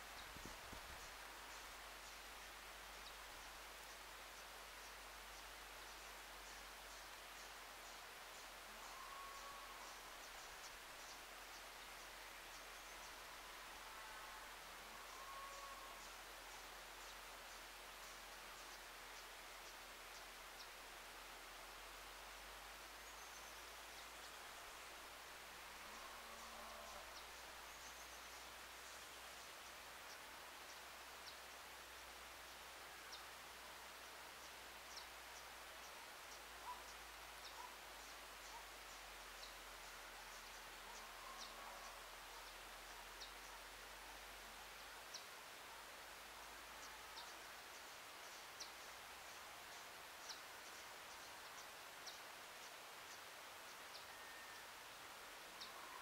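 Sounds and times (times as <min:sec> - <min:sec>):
steady low hiss: 0:00.0 - 0:56.0.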